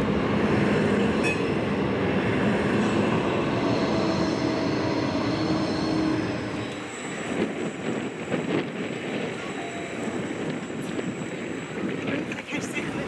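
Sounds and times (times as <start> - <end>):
high-pitched tram whine: 0.0 - 13.0
tram rolling hum: 0.0 - 13.0.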